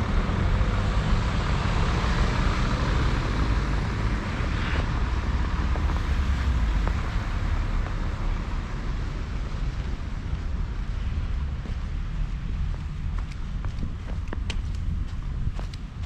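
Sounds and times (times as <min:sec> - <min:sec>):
street traffic passing: 0:00.0 - 0:16.0.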